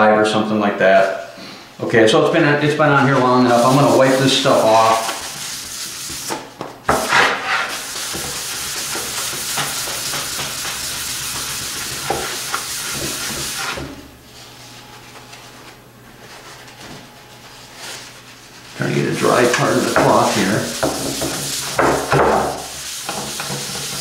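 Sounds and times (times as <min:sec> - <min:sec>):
cloth rubbing on wood: 0:02.5 - 0:24.0.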